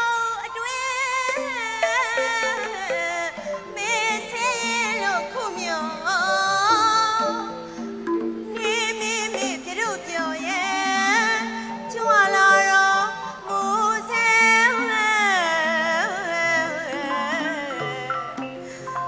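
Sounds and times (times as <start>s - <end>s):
high voice singing: 0.0s - 7.6s, 8.6s - 19.0s.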